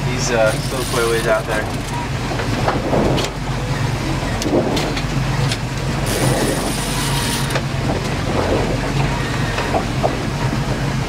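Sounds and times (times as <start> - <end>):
boat engine humming: 0.0 - 11.0
wind and water hiss: 0.0 - 11.0.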